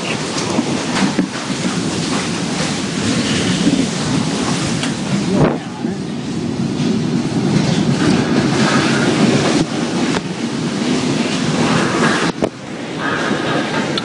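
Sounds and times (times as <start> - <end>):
tornado wind roaring: 0.0 - 14.0
wind buffeting microphone: 0.0 - 14.0.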